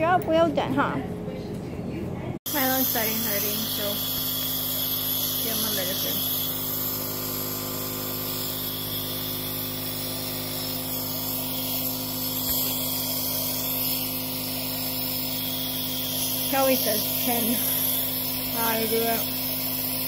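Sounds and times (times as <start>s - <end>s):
air compressor humming: 2.4s - 20.0s
air hissing through nebulizer cup: 2.6s - 20.0s.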